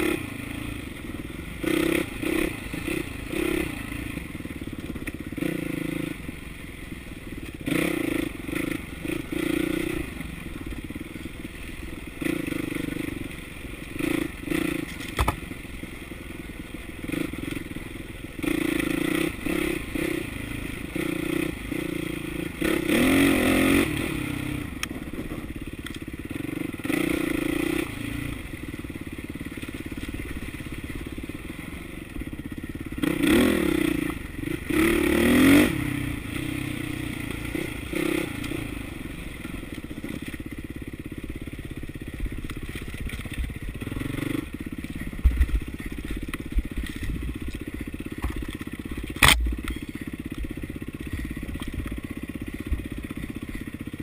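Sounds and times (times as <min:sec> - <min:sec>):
dirt bike engine revving: 0:00.0 - 0:15.8, 0:16.9 - 0:25.6, 0:26.3 - 0:28.6, 0:29.4 - 0:40.4, 0:42.6 - 0:49.9.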